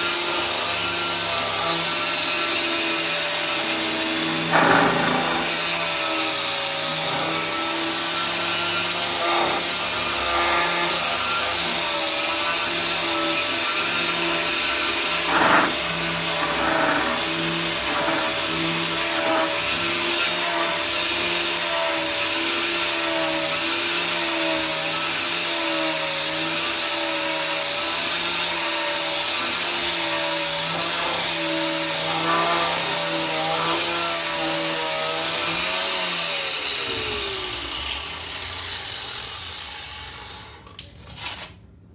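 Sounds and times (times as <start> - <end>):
electric sander on wood: 0.0 - 40.6.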